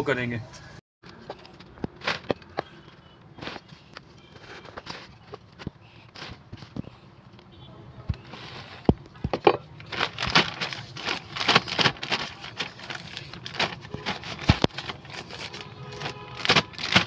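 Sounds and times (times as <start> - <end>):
plastic rustling: 1.1 - 6.9, 8.2 - 17.0.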